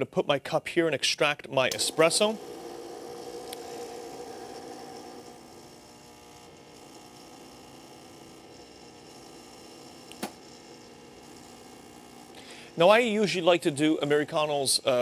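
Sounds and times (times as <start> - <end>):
espresso machine pump humming: 1.7 - 15.0.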